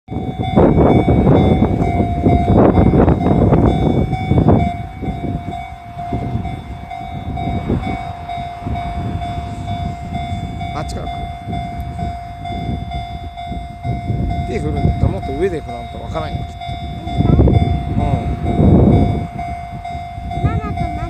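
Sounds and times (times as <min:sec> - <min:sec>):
crossing warning signal ringing: 0:00.1 - 0:21.0.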